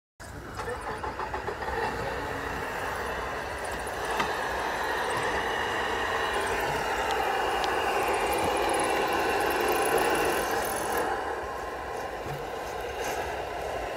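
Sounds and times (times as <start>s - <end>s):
electric motor and gears whining: 0.2s - 13.9s.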